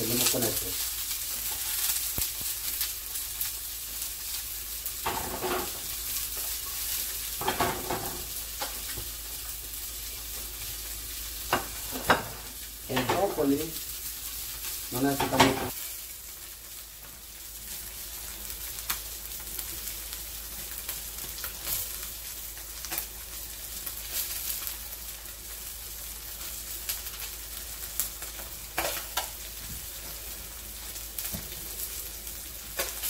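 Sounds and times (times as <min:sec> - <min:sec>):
fish sizzling in frying pan: 0:00.0 - 0:33.0.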